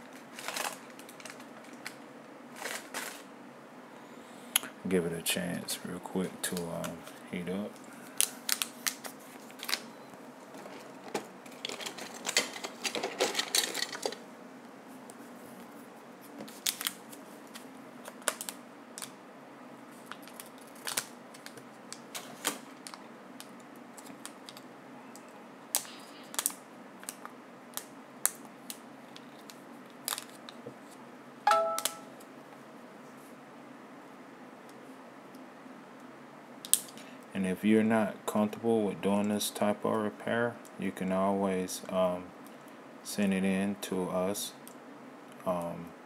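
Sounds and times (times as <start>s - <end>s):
faint steady hiss: 0.0s - 46.0s.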